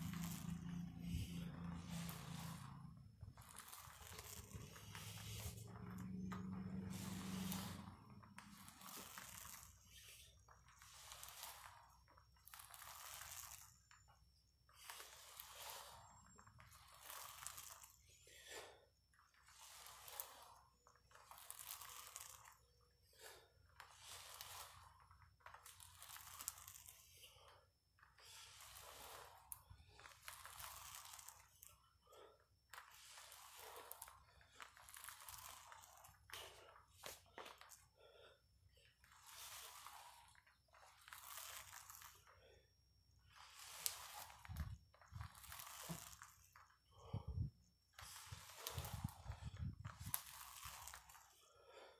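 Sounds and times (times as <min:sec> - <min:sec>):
ab wheel rasping on floor: 0:00.0 - 0:51.9.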